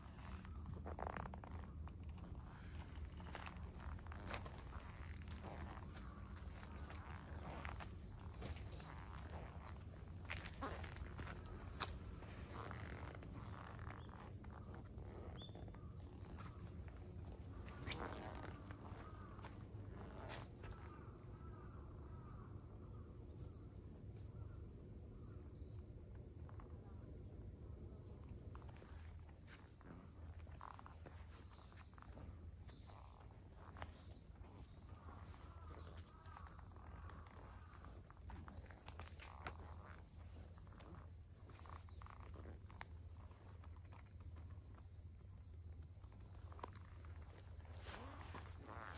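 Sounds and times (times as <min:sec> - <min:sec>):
insect chorus trilling: 0:00.0 - 0:48.9.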